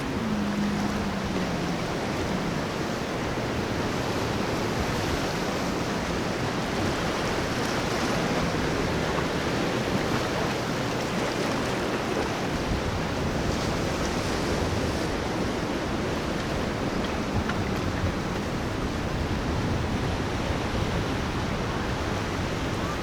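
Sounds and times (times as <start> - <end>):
breaking surf: 0.0 - 23.0
wind noise: 0.0 - 23.0.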